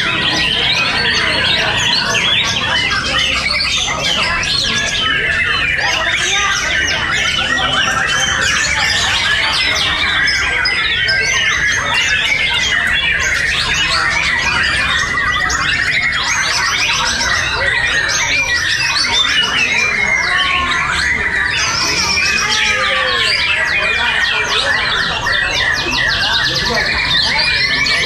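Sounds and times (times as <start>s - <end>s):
many birds singing: 0.0s - 28.0s.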